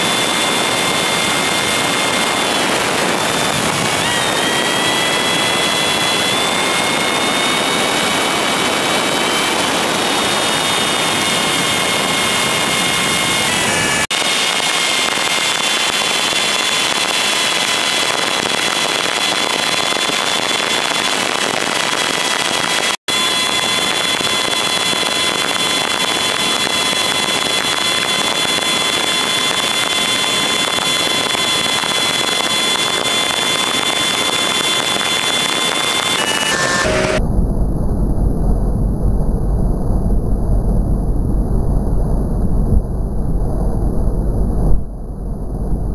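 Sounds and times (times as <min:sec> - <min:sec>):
outboard motor whining: 0:00.0 - 0:37.2
wind on microphone: 0:00.0 - 0:45.9.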